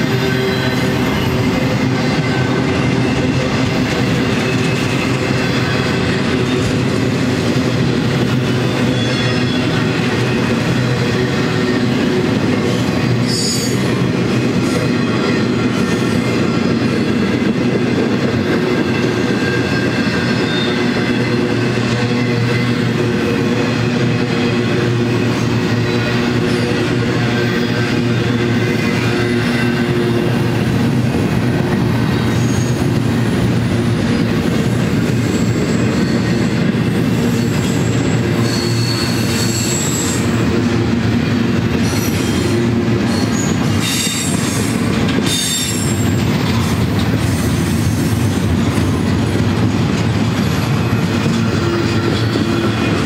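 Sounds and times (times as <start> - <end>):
high wheel squeal: 0.0 - 30.6, 32.0 - 40.4, 41.8 - 49.1
freight train wheels rumbling: 0.0 - 53.0
ringing rail tones: 0.0 - 53.0.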